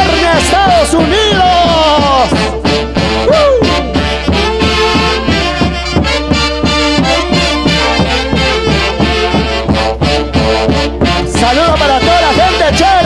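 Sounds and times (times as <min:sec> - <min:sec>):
driving beat: 0:00.0 - 0:13.0
horns playing melody: 0:00.0 - 0:13.0.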